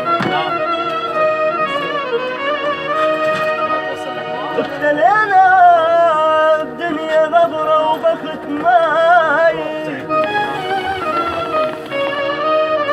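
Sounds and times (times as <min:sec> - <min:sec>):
instrumental accompaniment: 0:00.0 - 0:12.9
song with ornamented vocal melody: 0:00.0 - 0:12.9.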